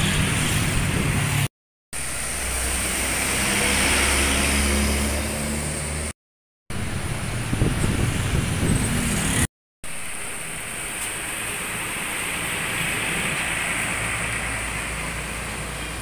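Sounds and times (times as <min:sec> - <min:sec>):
bus tyres hissing on wet road: 0:00.0 - 0:06.1, 0:06.8 - 0:16.0
street traffic: 0:00.0 - 0:16.0.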